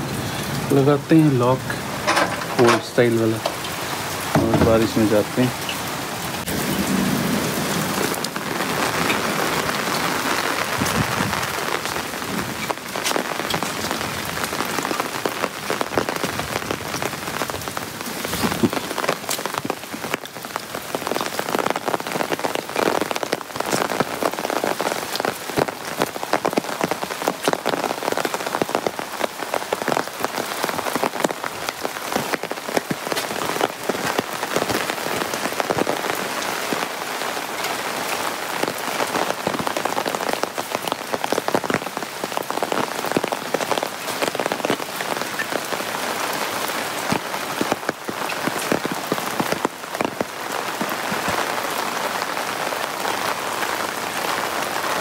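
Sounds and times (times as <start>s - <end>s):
rain drops hitting umbrella: 0.0s - 55.0s
rain hissing on paving: 0.0s - 55.0s.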